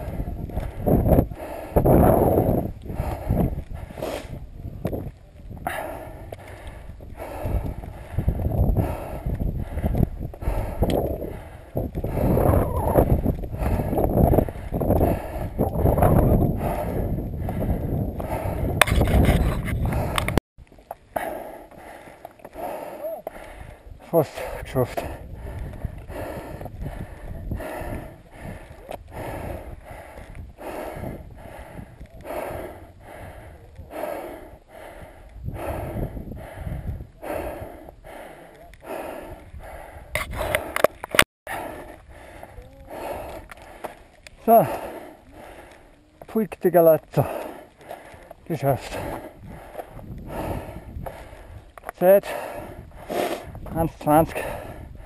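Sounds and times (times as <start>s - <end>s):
runner panting hard: 0.0s - 55.0s
wind buffeting microphone: 0.0s - 55.0s.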